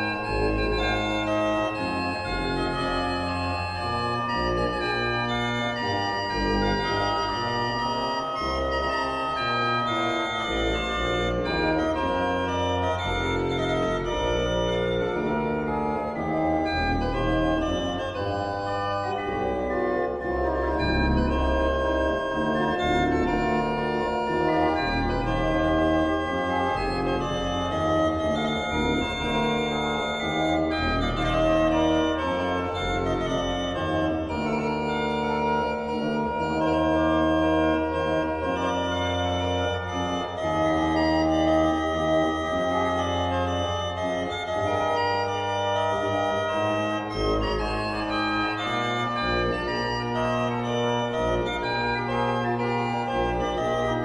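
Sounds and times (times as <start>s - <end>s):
low organ pedal bass: 0.0s - 54.0s
pipe organ chords: 0.0s - 54.0s.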